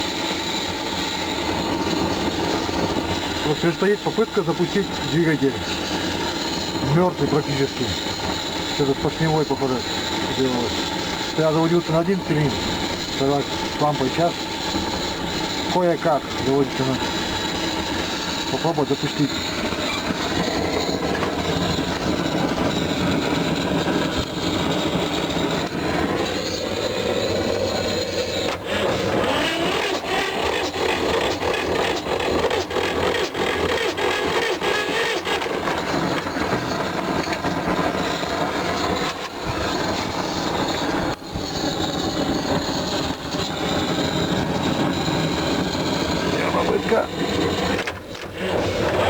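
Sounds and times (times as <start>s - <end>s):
diesel engine labouring: 0.0s - 49.0s
fast regular engine knocking: 0.1s - 47.9s.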